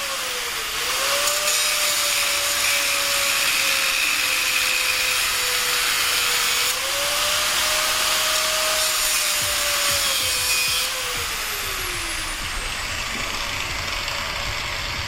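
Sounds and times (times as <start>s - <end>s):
angle grinder cutting metal: 0.0s - 15.0s.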